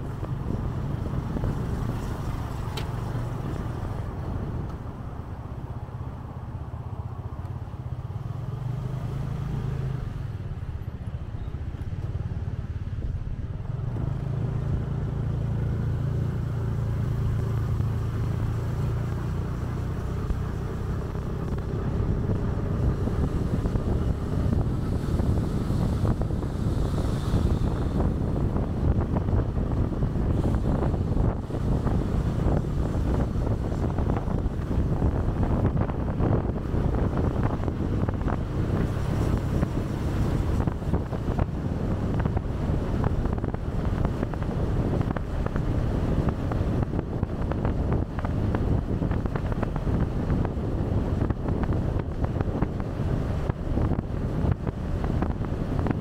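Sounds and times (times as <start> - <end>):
motorcycle engine humming: 0.0 - 56.0
road and air noise: 0.0 - 56.0.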